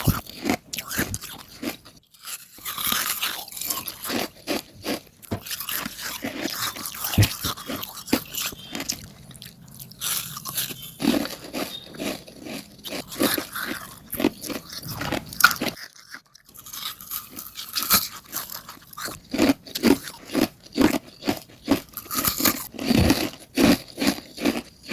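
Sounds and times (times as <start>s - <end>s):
ice being chewed: 0.0s - 24.9s.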